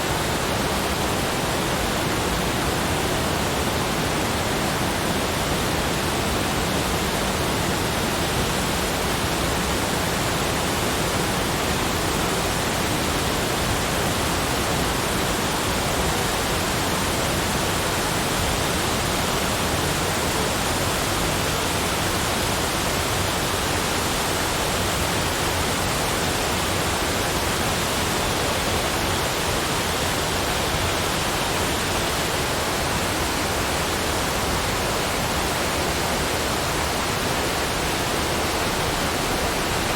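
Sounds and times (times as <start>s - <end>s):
continuous rushing noise: 0.0s - 39.9s.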